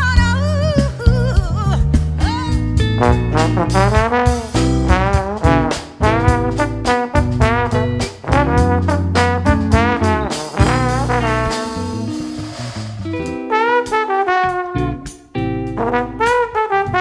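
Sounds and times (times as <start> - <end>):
bass guitar: 0.0 - 17.0
drum kit: 0.0 - 17.0
trombone melody: 2.9 - 17.0.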